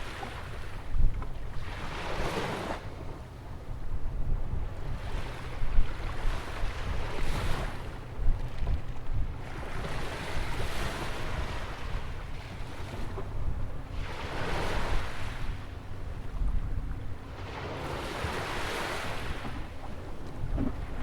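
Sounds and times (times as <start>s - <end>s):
ocean waves breaking: 0.0s - 21.0s
wind buffeting microphone: 0.0s - 21.0s.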